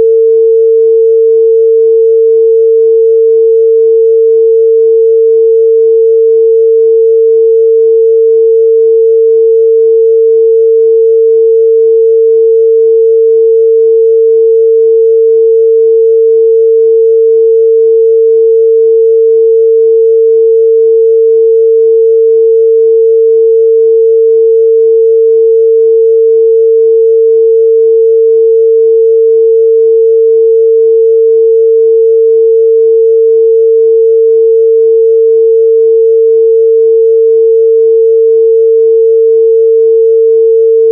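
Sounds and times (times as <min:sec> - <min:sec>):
sine test tone: 0:00.0 - 0:40.9.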